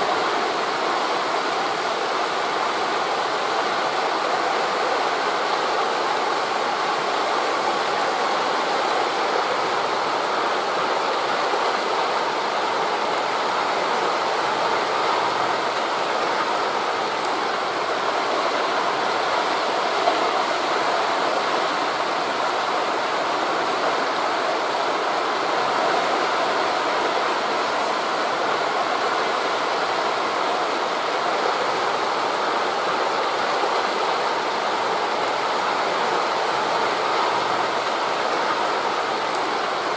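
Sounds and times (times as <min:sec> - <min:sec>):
wind through trees: 0:00.0 - 0:39.9.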